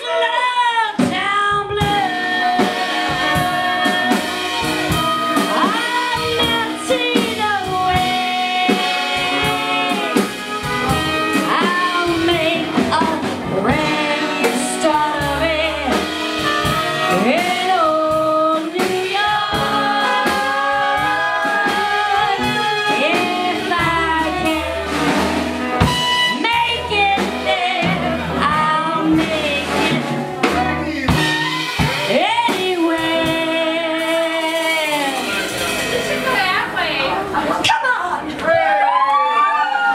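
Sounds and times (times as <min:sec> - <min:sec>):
singing over a band: 0:00.0 - 0:24.8, 0:26.0 - 0:37.3
steady bass line: 0:01.6 - 0:37.6.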